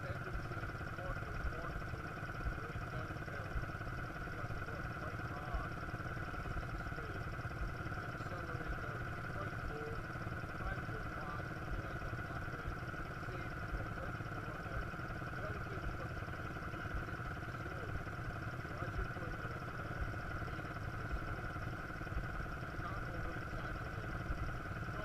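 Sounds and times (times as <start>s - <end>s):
quad bike engine droning: 0.0s - 25.0s.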